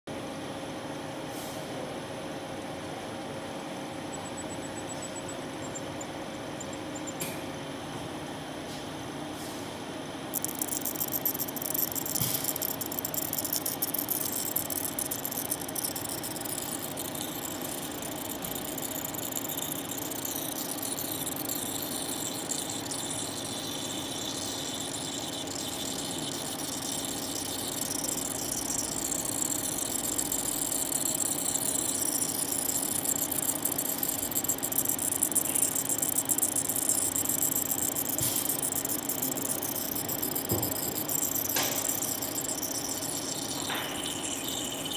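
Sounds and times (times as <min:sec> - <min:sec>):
steady machine hum: 0:02.3 - 0:08.6, 0:09.9 - 0:44.9.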